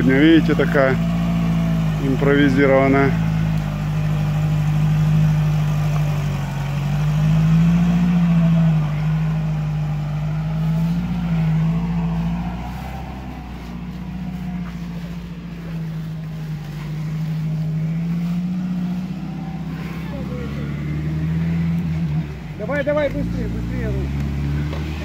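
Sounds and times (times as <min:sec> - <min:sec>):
off-road vehicle engine labouring: 0:00.0 - 0:25.0.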